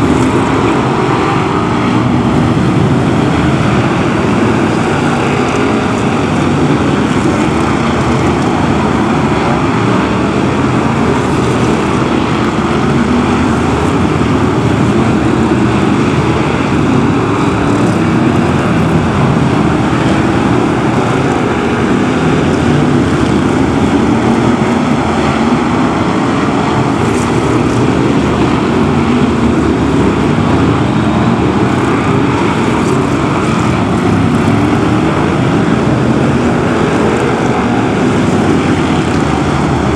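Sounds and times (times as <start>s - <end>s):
racing car engines roaring: 0.0s - 39.9s.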